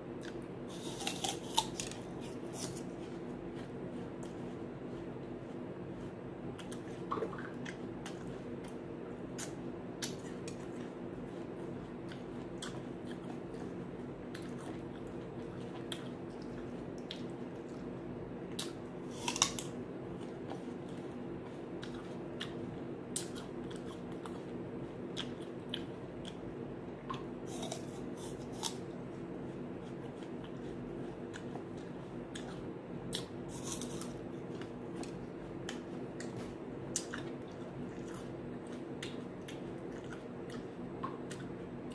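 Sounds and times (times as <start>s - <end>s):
person chewing crunchy apple: 0.0s - 41.9s
steady low hum: 0.0s - 41.9s.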